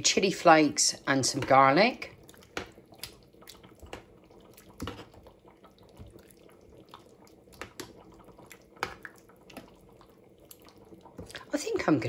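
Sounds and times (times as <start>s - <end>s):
wet squelches of stirring: 0.0s - 12.0s.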